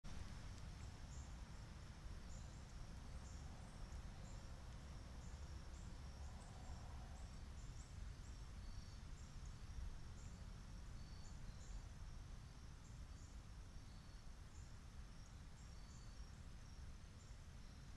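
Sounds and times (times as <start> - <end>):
low steady rumble: 0.1 - 17.9.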